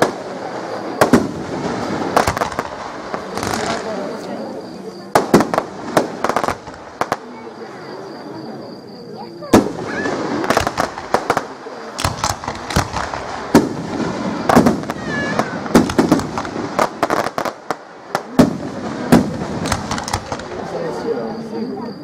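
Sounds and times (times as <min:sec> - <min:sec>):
fireworks crackling: 0:00.0 - 0:21.8
fireworks bursting with loud bangs: 0:00.0 - 0:21.9.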